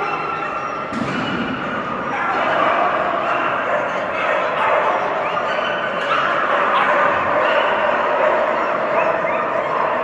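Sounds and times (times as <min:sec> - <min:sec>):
dogs barking and yipping: 0:00.0 - 0:10.0.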